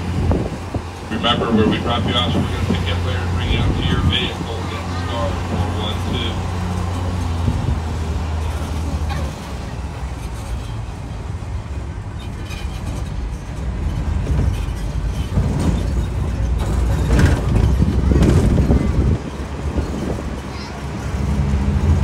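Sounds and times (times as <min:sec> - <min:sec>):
tram motor and tyres rumbling: 0:00.0 - 0:22.0.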